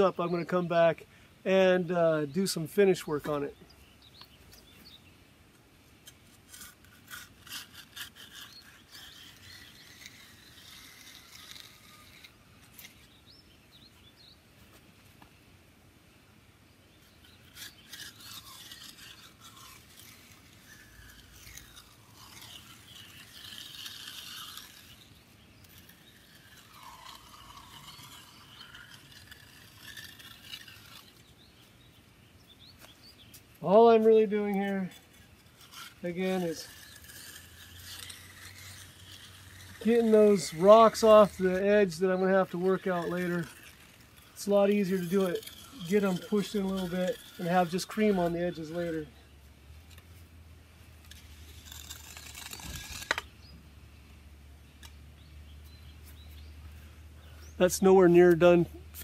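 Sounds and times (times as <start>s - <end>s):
edging tool scraping wet concrete: 0.0s - 3.5s, 6.0s - 13.3s, 17.0s - 32.0s, 32.6s - 50.2s, 50.9s - 53.5s, 54.8s - 59.0s.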